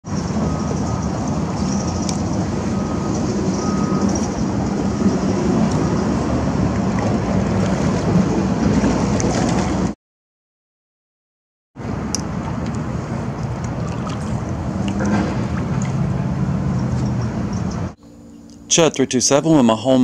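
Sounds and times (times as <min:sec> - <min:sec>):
outdoor rushing noise with low rumble: 0:00.0 - 0:10.0, 0:11.8 - 0:18.9.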